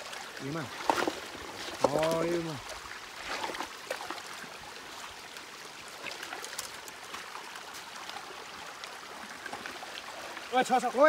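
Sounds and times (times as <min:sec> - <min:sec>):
stream trickling over stones: 0:00.0 - 0:11.0.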